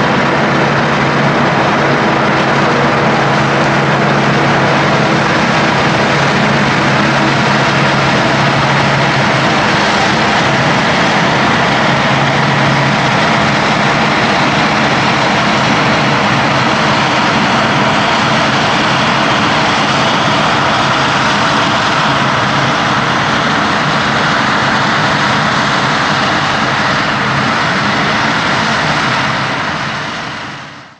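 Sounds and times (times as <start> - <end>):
heavy diesel machinery: 0.0 - 30.9
low engine hum: 0.0 - 30.9.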